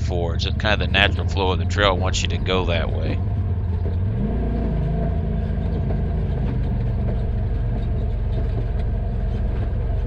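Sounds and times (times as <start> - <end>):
utility vehicle engine revving: 0.0 - 10.0.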